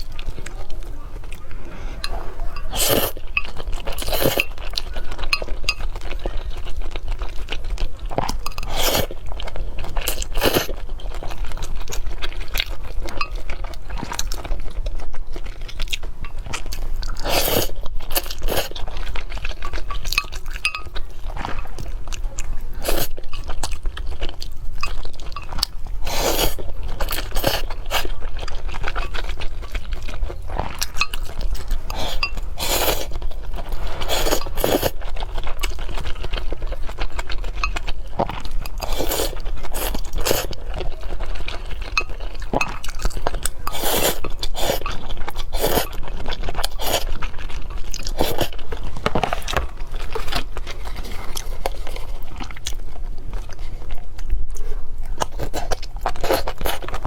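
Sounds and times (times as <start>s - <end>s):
chewing cake: 0.0s - 57.0s.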